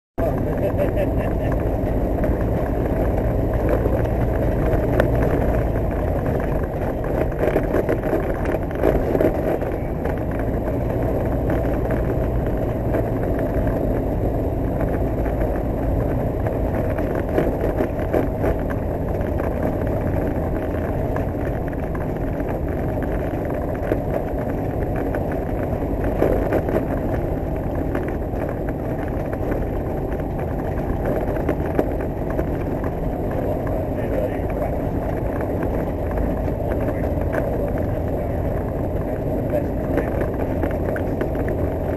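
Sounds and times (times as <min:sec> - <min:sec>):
aircraft piston engine and propeller: 0:00.2 - 0:41.9.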